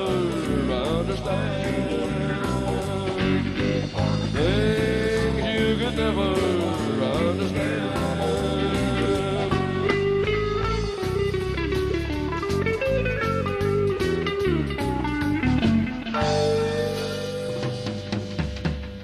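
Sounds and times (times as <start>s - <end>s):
country rock band playing: 0.0s - 19.0s.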